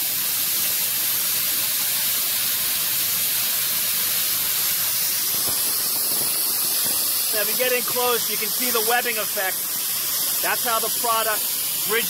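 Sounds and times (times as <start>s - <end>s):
spray gun hissing: 0.0s - 12.0s.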